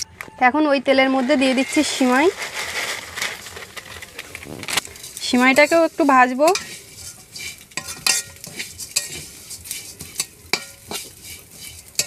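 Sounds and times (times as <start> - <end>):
metal spatula scraping a pan: 1.1 - 12.0
light sizzle of frying: 1.2 - 12.0.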